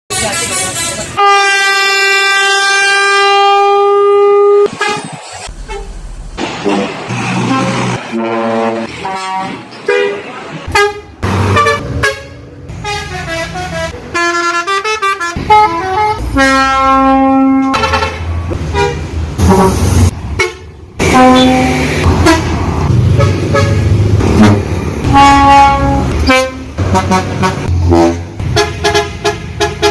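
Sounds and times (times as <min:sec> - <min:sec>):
bus horn: 0:00.1 - 0:06.0, 0:06.6 - 0:29.9.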